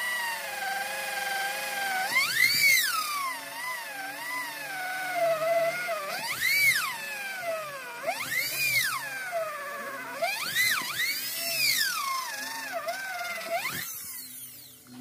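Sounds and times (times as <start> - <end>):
small power tool whine: 0.0 - 15.0.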